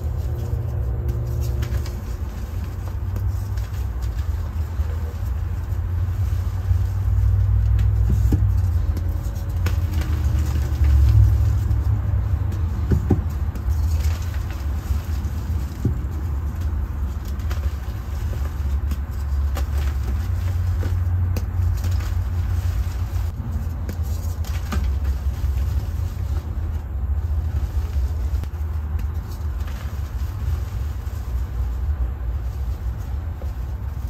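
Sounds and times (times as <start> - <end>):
hands crumbling chalk: 0.0 - 34.0
low background rumble: 0.0 - 34.0.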